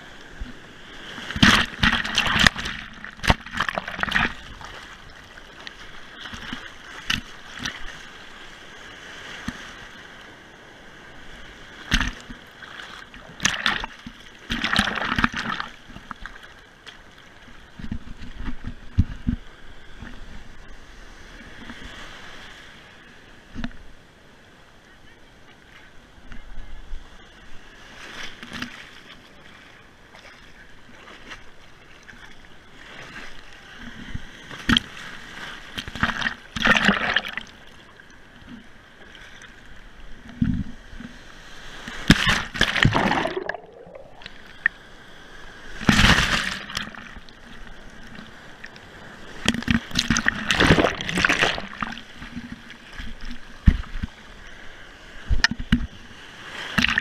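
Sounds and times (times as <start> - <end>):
ocean surf splashing: 0.0 - 23.6, 24.4 - 57.0
waves breaking over camera: 0.0 - 57.0.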